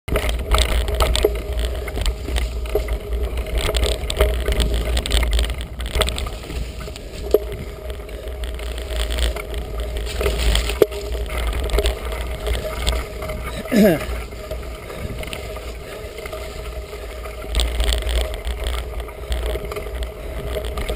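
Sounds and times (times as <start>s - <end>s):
bike knocking and rattling: 0.1s - 20.9s
wind rumbling on microphone: 0.1s - 20.9s.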